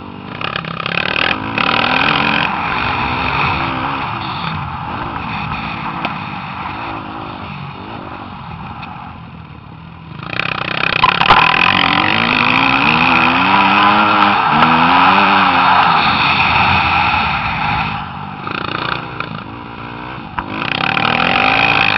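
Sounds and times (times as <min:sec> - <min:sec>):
dirt bike engine revving: 0:00.0 - 0:08.4, 0:10.1 - 0:21.9.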